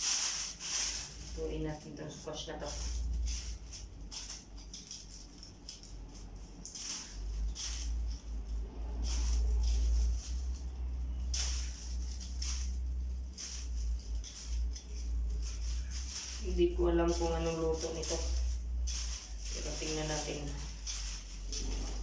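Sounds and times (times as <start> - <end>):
low steady rumble: 0.0 - 22.0
scraping strokes on squash: 0.0 - 22.0.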